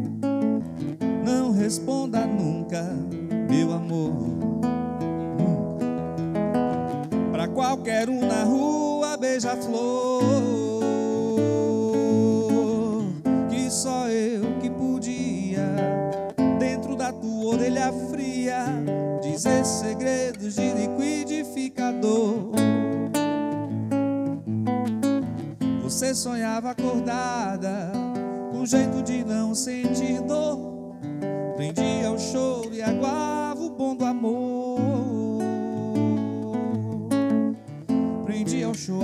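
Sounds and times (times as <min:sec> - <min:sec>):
acoustic guitar strummed and picked: 0:00.0 - 0:39.0
man singing: 0:01.0 - 0:06.2, 0:07.2 - 0:23.7, 0:25.7 - 0:39.0.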